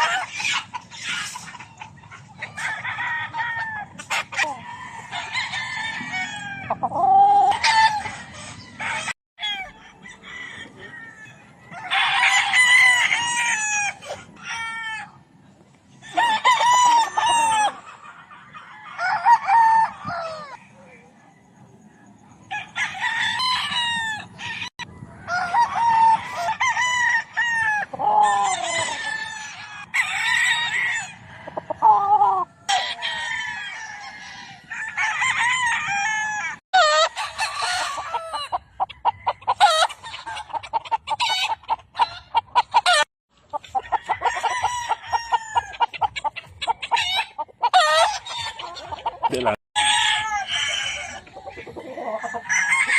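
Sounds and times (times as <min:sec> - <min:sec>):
roosters crowing: 0:00.0 - 0:52.9.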